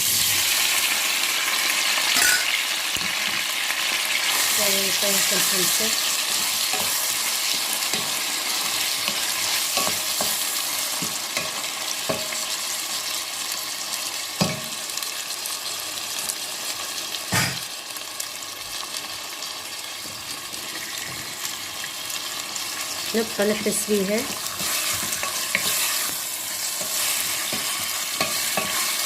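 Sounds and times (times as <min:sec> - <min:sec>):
food sizzling in hot fat: 0:00.0 - 0:29.0.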